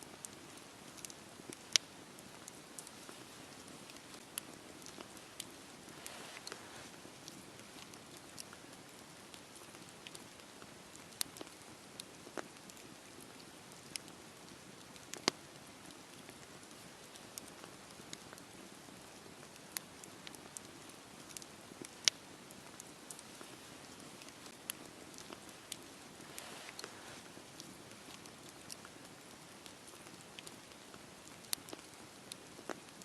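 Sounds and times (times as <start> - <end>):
campfire crackling and hissing: 0.0 - 33.0.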